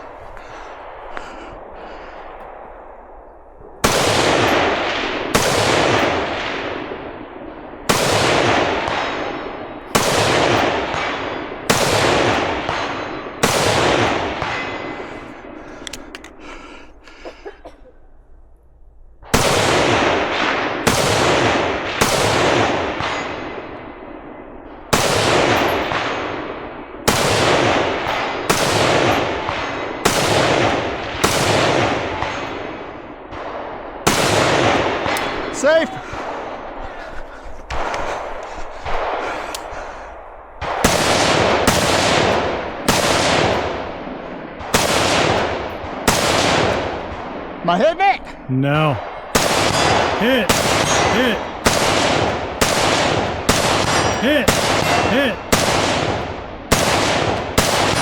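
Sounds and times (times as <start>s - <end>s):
echoing gunshots: 0.0s - 16.5s, 19.2s - 36.8s, 37.7s - 47.6s, 48.7s - 58.0s.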